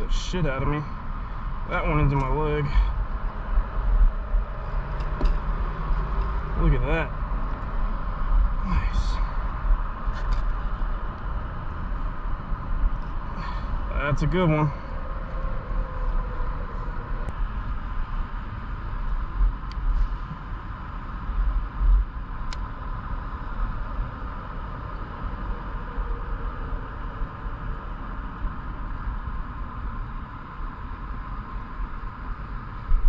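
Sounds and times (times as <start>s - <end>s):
steady hum: 0.0s - 33.0s
wind rumbling on microphone: 0.0s - 33.0s.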